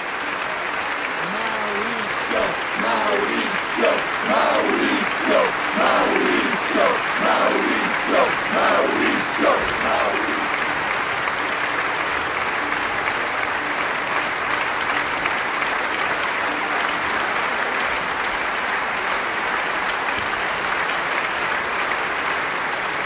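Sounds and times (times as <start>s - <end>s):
large audience applauding: 0.0s - 23.0s.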